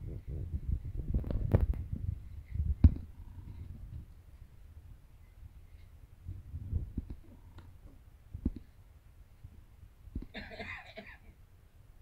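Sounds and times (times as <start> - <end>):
soft low thumps: 0.0 - 10.4.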